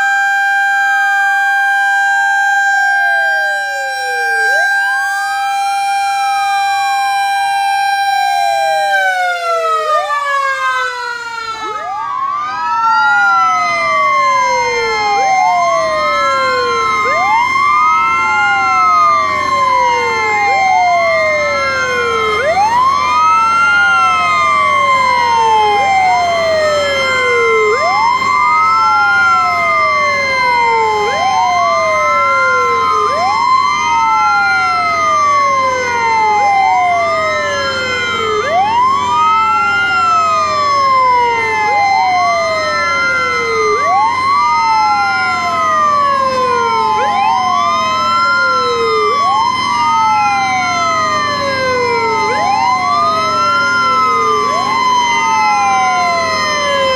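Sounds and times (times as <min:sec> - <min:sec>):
fire truck sirens wailing: 0:00.0 - 0:56.9.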